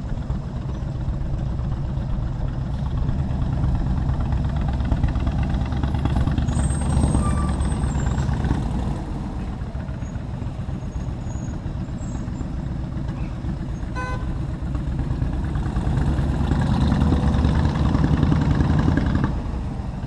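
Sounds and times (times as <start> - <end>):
city traffic: 0.0 - 20.0
motorcycle engine rumble: 0.0 - 20.0.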